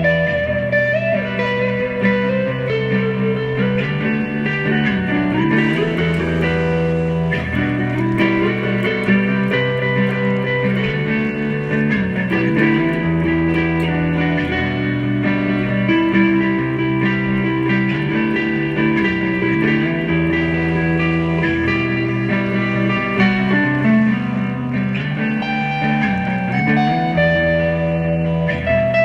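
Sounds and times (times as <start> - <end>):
bass line: 0.0 - 29.0
guitar-led instrumental music: 0.0 - 29.0.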